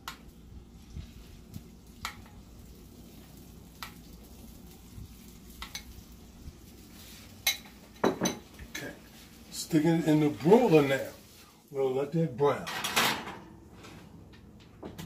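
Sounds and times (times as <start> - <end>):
skillet sizzling: 0.0 - 13.4.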